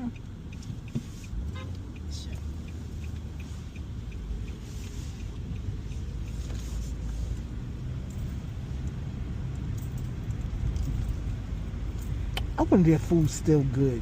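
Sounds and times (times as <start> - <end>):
car engine and tyres rumbling: 0.0 - 14.0
faint rapid ticking: 0.0 - 14.0.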